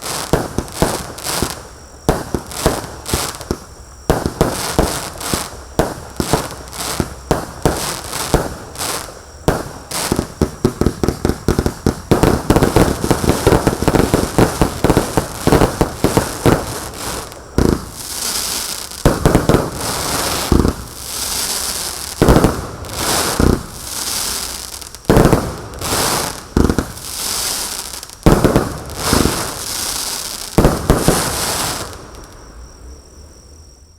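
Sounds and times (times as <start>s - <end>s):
firework crackling: 0.0s - 32.6s
firework shots: 0.0s - 32.6s.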